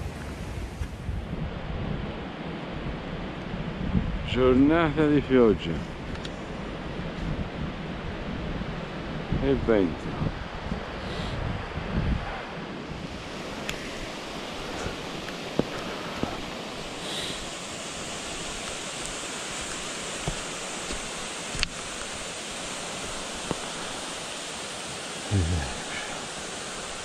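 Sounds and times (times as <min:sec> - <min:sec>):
rain and wind hiss: 0:00.0 - 0:27.0.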